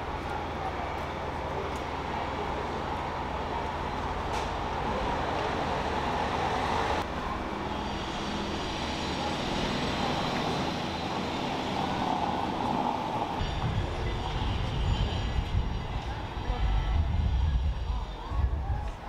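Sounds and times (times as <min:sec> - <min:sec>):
city traffic hum: 0:00.0 - 0:19.0.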